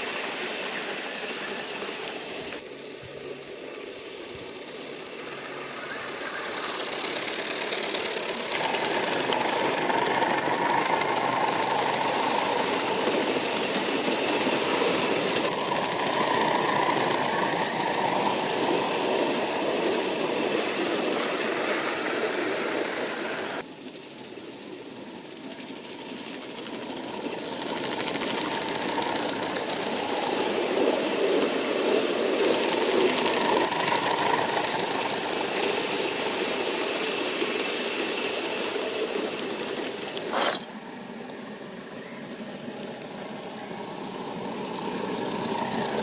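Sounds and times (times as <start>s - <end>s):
steam locomotives working: 0.0s - 46.0s.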